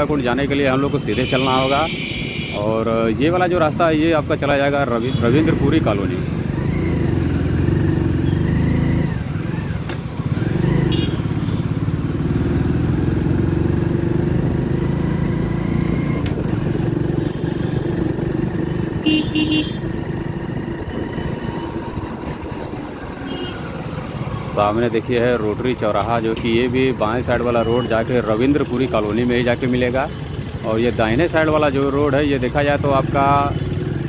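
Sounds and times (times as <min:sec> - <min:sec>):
motorcycle engine running: 0:01.9 - 0:34.0.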